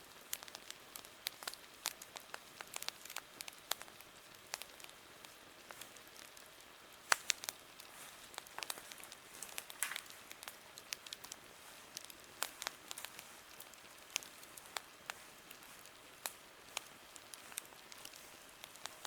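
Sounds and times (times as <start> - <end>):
campfire crackling: 0.0 - 19.0
faint steady hiss: 0.0 - 19.0.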